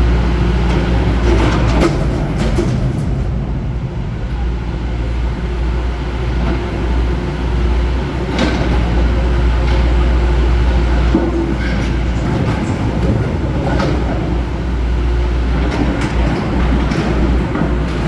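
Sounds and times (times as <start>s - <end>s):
diesel engine running: 0.0s - 15.8s.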